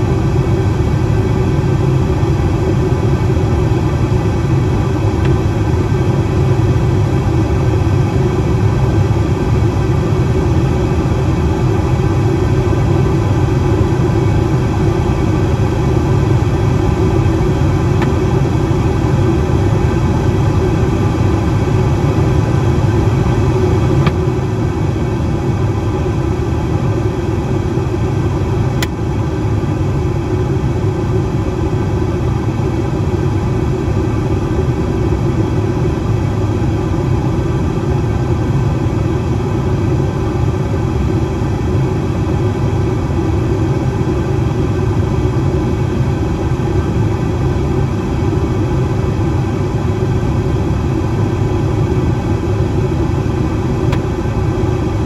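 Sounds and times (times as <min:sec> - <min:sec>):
airliner engine and airflow rumble: 0:00.0 - 0:55.0.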